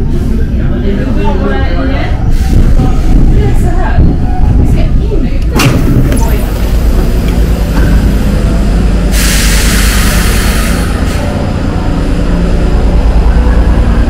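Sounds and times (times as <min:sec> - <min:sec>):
metro train rumbling: 0:00.0 - 0:14.0.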